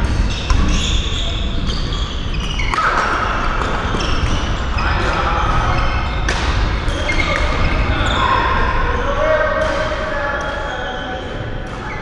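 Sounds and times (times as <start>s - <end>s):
shoes squeaking on floor: 0.0s - 9.6s, 10.4s - 12.0s.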